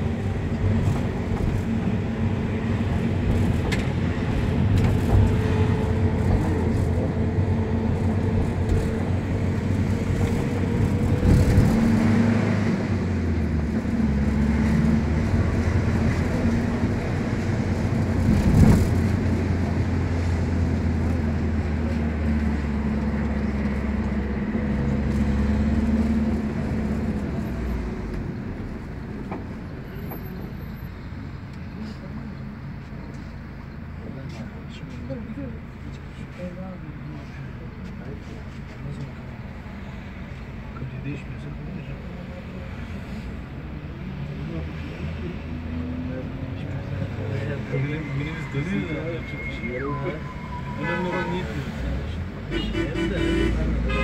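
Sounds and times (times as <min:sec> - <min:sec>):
bus engine humming: 0:00.0 - 0:54.0
road rumble: 0:00.0 - 0:54.0.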